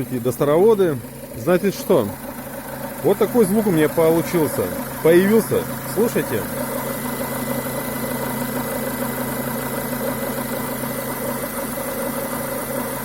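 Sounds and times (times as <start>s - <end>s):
car engine idling: 0.0s - 13.0s
gurgling croaking engine noise: 0.0s - 13.0s.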